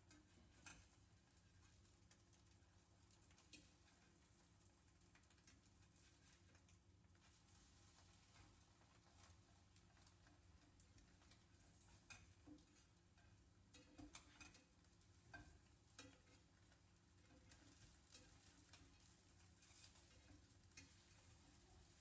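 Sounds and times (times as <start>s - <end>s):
light taps and clicks of cooking: 0.0s - 22.0s.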